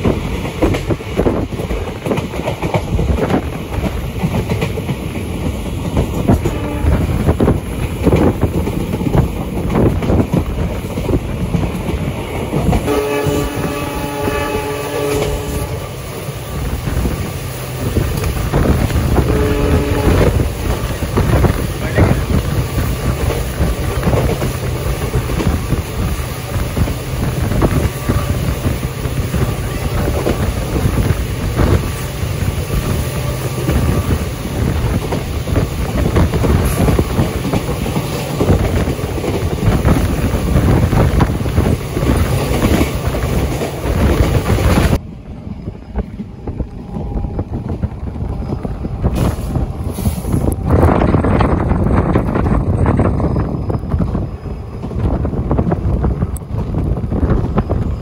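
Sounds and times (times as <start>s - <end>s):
passenger train running: 0.0s - 58.0s
wind buffeting microphone: 0.0s - 58.0s.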